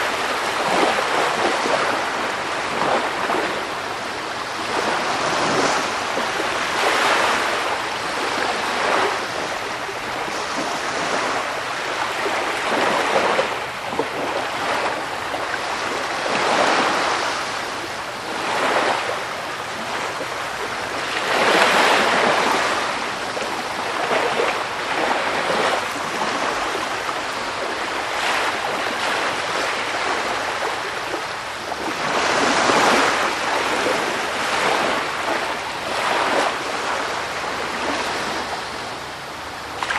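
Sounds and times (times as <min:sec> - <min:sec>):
waves breaking on shore: 0:00.0 - 0:39.9
wind: 0:00.0 - 0:39.9.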